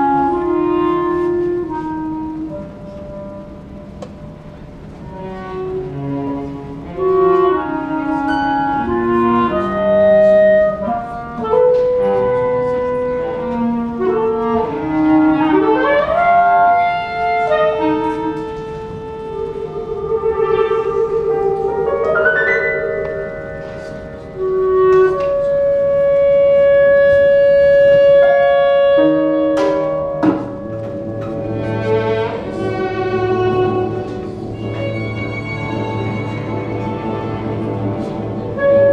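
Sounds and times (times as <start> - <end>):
chamber quartet playing: 0.0 - 38.9.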